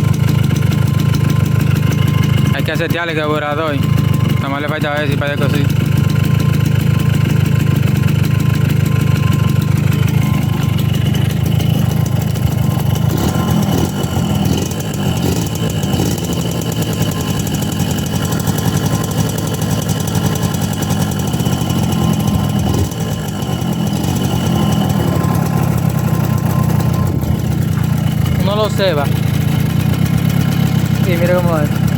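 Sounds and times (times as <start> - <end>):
two-stroke engine idling: 0.0 - 31.9.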